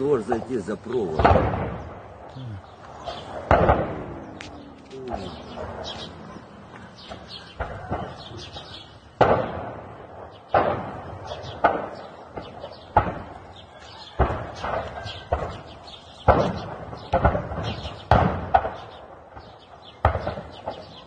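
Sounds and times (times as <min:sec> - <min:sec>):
ammunition blasts echoing: 0:00.0 - 0:02.3, 0:03.0 - 0:06.4, 0:07.0 - 0:21.0.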